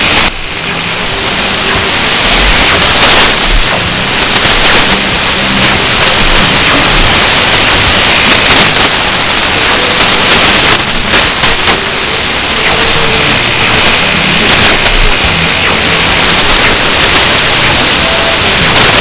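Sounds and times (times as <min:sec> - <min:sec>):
faint weak radio signal: 0:00.0 - 0:19.0
radio static and hiss: 0:00.0 - 0:19.0.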